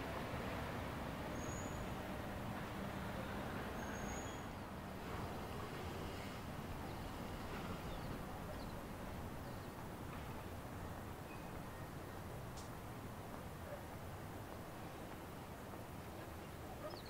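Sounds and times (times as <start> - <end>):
distant traffic: 0.0 - 17.0.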